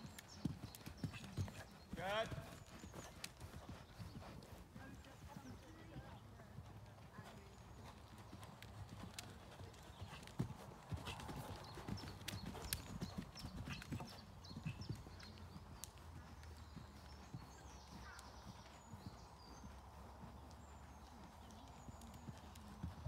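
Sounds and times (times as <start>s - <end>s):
horse hoofbeats on soft ground: 0.0s - 23.0s.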